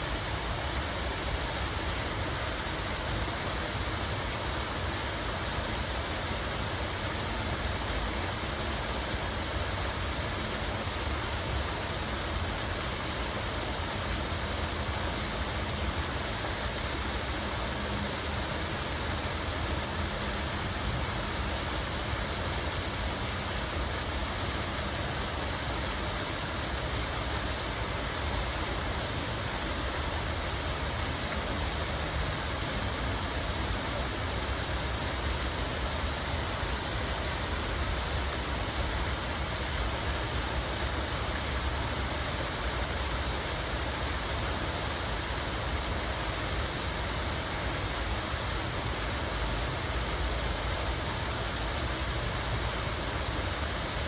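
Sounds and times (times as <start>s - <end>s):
water running and splashing: 0.1s - 54.0s.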